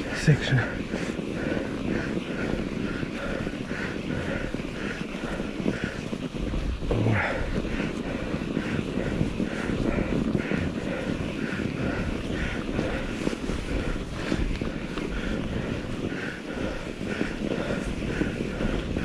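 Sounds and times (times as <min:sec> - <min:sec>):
bike tyres rumbling in snow: 0:00.0 - 0:19.0
wind on microphone: 0:00.0 - 0:19.0.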